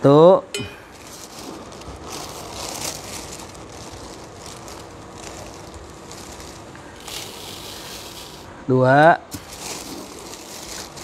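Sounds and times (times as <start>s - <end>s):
rice grains rustling: 0.9s - 8.6s, 9.3s - 11.0s
plastic bag crinkling: 0.9s - 11.0s.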